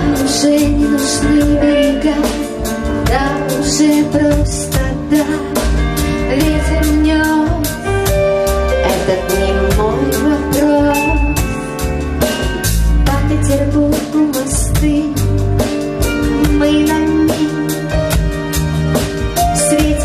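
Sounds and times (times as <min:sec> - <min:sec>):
song with drum beat and guitar: 0:00.0 - 0:20.0.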